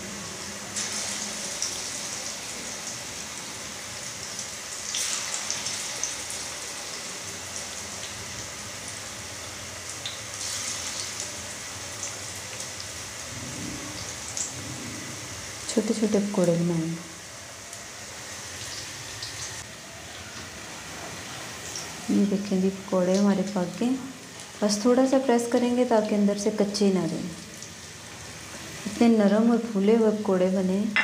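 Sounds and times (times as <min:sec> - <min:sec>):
food deep-frying sizzle: 0:00.0 - 0:31.0.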